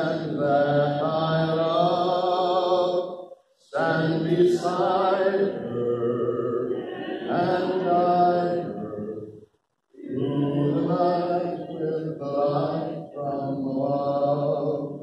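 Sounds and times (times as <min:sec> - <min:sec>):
man singing unaccompanied: 0:00.0 - 0:03.0, 0:03.7 - 0:09.2, 0:10.0 - 0:15.0.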